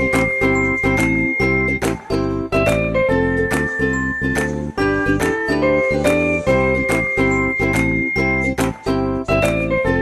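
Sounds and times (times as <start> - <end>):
tinkly instrumental music with beat: 0.0 - 10.0.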